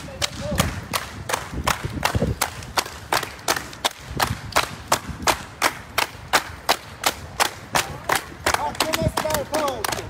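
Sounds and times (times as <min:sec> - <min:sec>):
people clapping in rhythm: 0:00.0 - 0:10.0.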